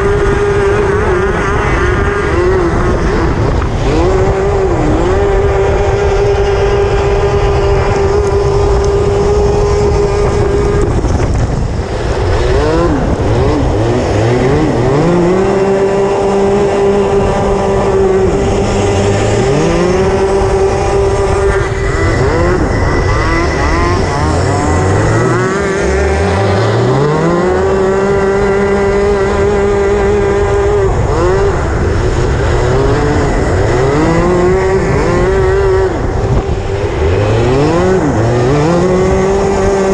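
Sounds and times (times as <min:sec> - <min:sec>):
other kart engines: 0:00.0 - 0:39.9
racing kart engine: 0:00.0 - 0:39.9.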